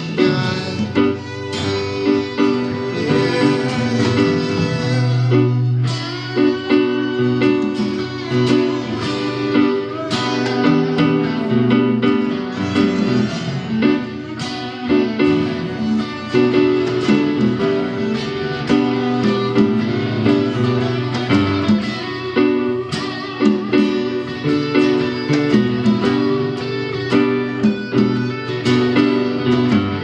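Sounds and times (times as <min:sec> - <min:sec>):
electric guitar strums: 0:00.0 - 0:30.0
live rock band playing: 0:00.0 - 0:30.0.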